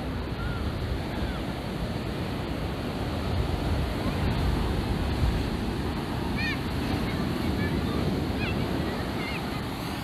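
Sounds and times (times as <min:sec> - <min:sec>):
surf breaking on a beach: 0:00.0 - 0:10.0
wind buffeting microphone: 0:00.0 - 0:10.0.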